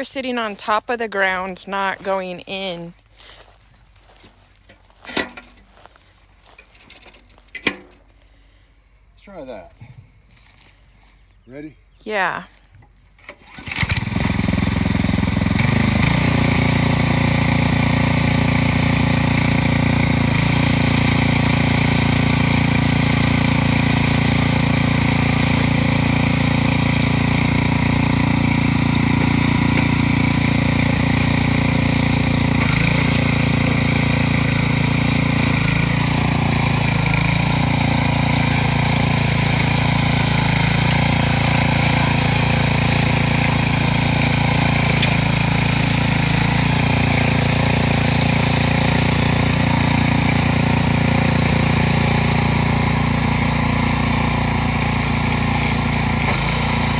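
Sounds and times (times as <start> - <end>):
rototiller engine running: 0.0 - 9.6, 12.1 - 56.9.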